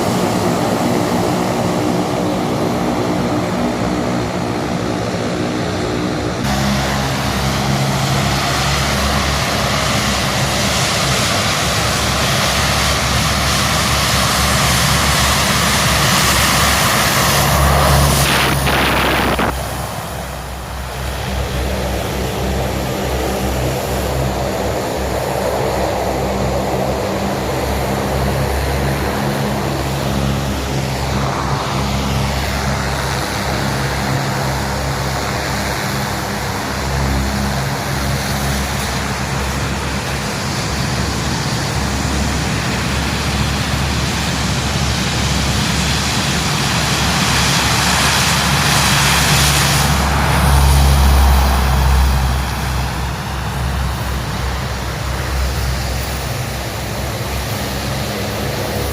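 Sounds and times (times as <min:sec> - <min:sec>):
propeller aircraft engines droning: 0:00.0 - 0:58.9.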